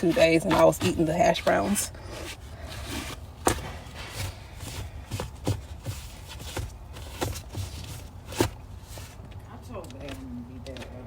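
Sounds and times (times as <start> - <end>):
objects handled and set down: 0.0 - 9.4.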